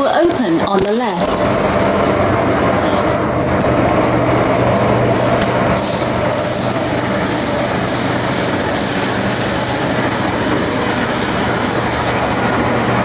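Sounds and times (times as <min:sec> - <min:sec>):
low hum and high whine: 0:00.0 - 0:13.0
train wheels rumbling on rails: 0:00.0 - 0:13.0.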